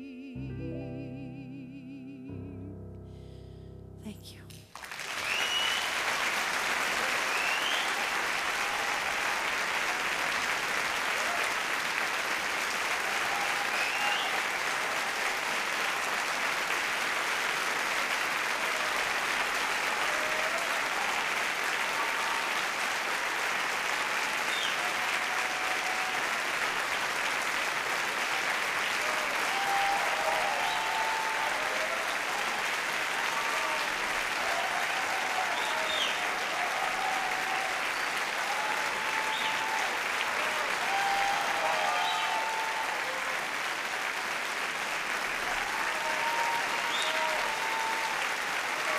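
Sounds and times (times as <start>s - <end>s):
audience applauding: 4.7s - 48.9s.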